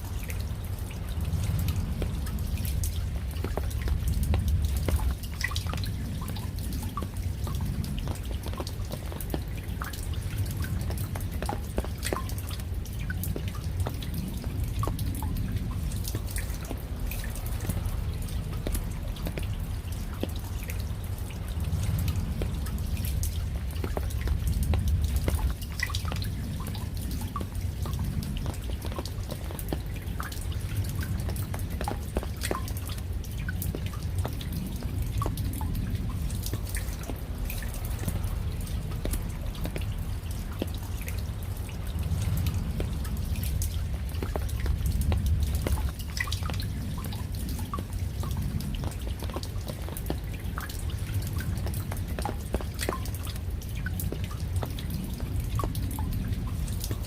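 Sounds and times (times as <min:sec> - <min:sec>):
raindrops dripping: 0:00.0 - 0:57.0
steady low rumble: 0:00.0 - 0:57.0.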